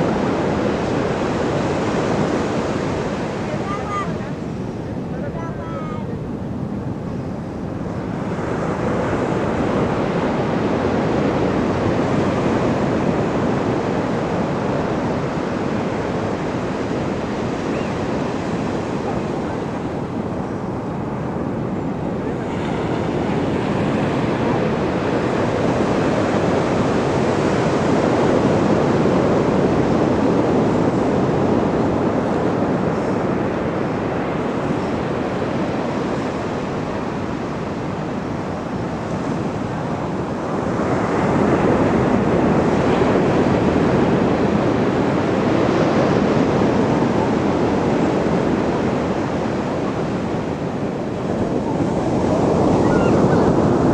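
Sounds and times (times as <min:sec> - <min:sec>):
waves breaking on shore: 0:00.0 - 0:53.9.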